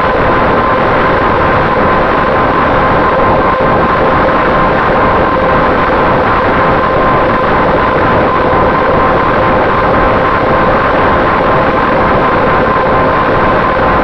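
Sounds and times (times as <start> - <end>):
electric motor and propeller droning: 0.1 - 14.0.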